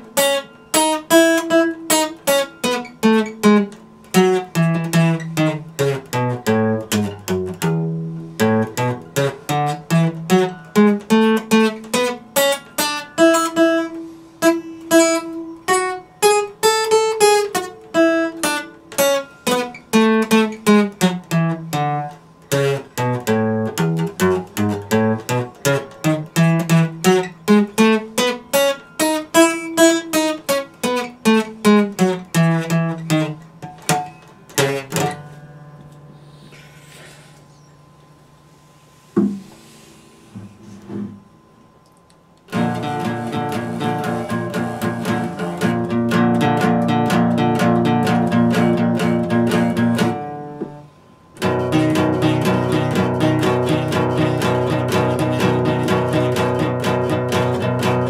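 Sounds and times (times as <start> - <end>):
acoustic guitar plucked notes: 0.0 - 37.7, 42.5 - 58.0.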